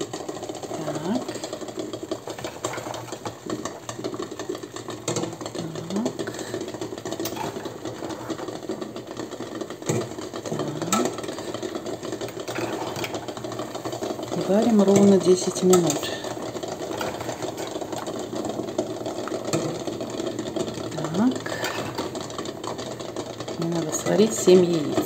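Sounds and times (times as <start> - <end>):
eggs knocking in pot: 0.0 - 25.0
water boiling and bubbling: 0.0 - 25.0.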